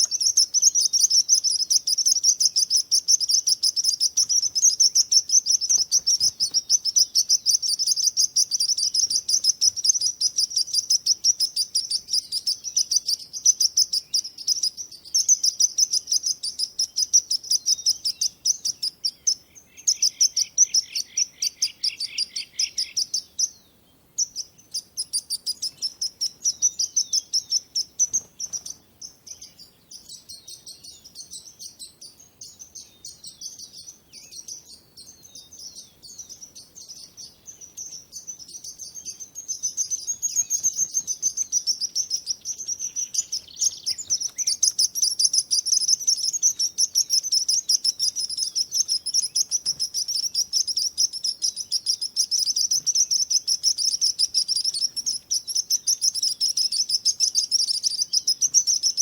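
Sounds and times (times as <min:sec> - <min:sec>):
lower bird chirps: 0:00.0 - 0:59.0
small birds chirping: 0:00.0 - 0:59.0.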